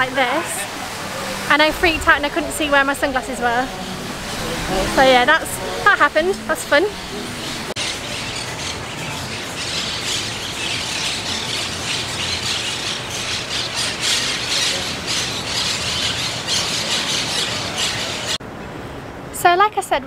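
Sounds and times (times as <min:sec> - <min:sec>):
many birds calling: 0:00.0 - 0:18.4.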